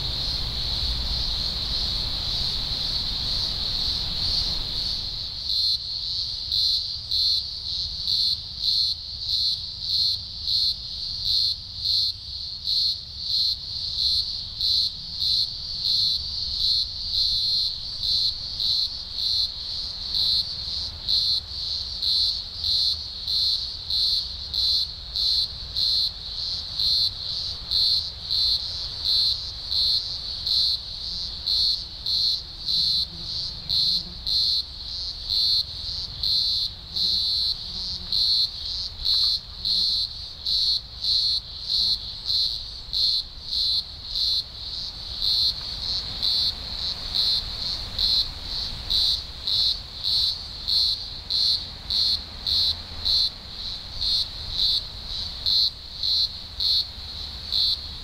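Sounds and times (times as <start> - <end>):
cicadas chorus shrill drone: 0.0 - 58.0.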